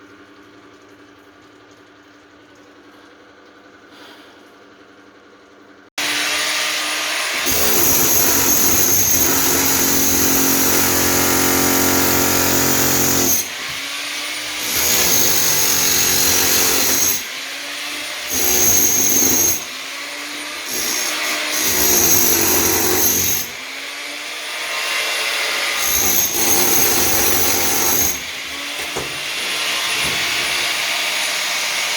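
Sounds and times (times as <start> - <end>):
electric power tool whining: 6.0 - 31.9.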